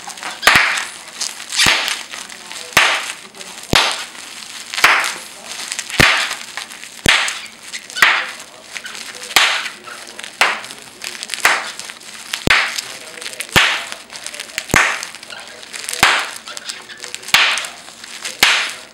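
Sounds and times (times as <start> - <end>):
bubble wrap popping: 0.0 - 18.9.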